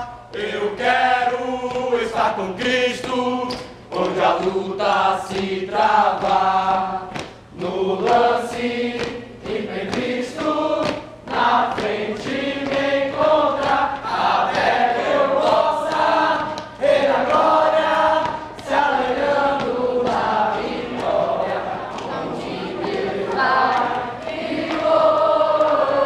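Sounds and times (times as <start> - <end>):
choir of teenagers singing: 0.0 - 26.0.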